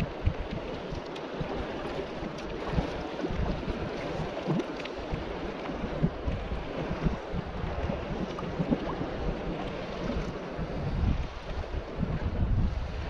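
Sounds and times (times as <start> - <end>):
water lapping: 0.0 - 13.0
wind buffeting microphone: 0.0 - 13.0.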